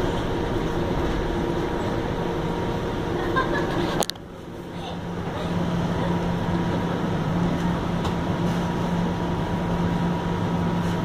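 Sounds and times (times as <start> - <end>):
streetcar low hum: 0.0 - 11.0
streetcar running noise: 0.0 - 11.0.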